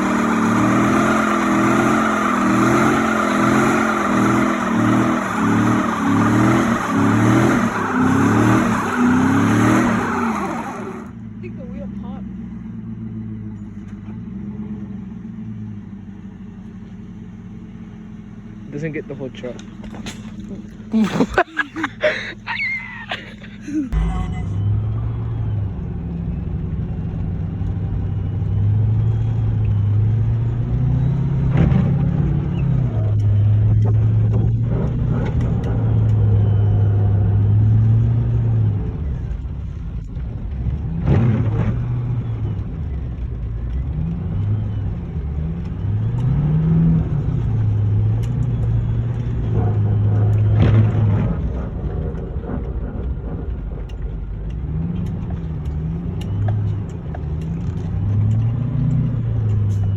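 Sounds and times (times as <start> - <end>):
truck engine revving: 0.0 - 16.6, 17.8 - 59.9.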